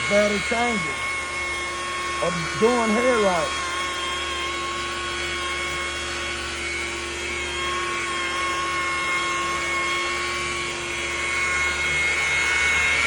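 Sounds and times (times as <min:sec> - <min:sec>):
power tool whining: 0:00.0 - 0:13.0.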